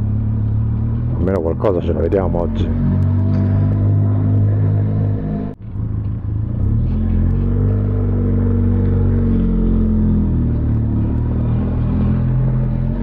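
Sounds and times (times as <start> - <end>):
motorcycle engine running: 2.5 - 13.0.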